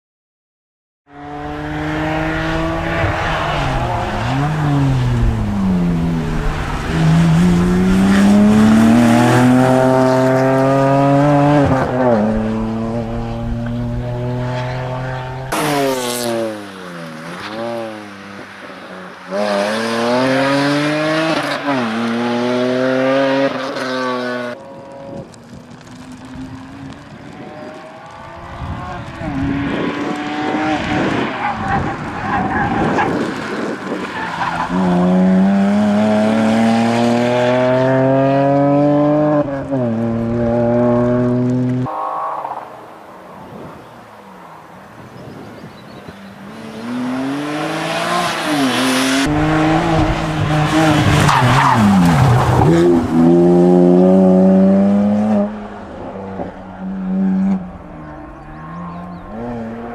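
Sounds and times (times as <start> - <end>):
rally car engine revving: 1.1 - 18.4, 19.3 - 42.8, 46.2 - 59.9.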